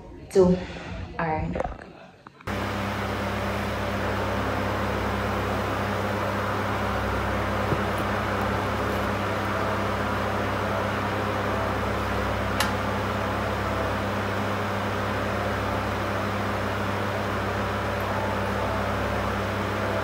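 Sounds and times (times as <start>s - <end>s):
machine hum: 2.5s - 20.0s.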